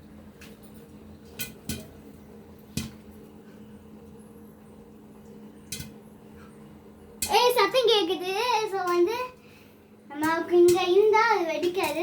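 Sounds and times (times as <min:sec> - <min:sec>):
popcorn popping in a cooker: 0:00.0 - 0:03.4, 0:04.6 - 0:09.4, 0:10.0 - 0:12.0
faint stove hum: 0:00.0 - 0:12.0.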